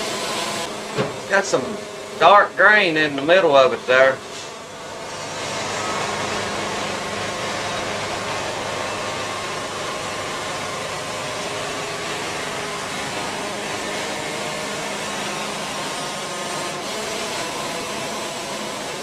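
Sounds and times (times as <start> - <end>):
band saw cutting a log: 0.0 - 19.0.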